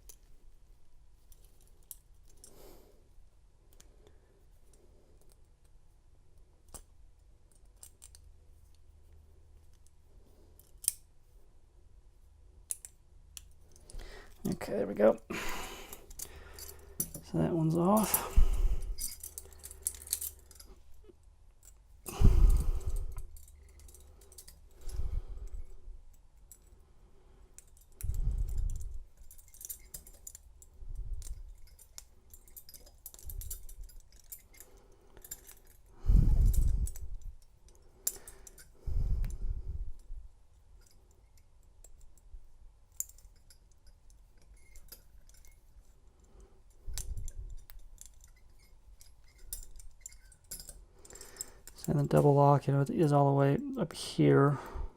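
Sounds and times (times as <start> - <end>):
handcuffs clicking and jangling: 0.0 - 0.4, 1.2 - 2.8, 4.6 - 11.1, 12.5 - 53.8.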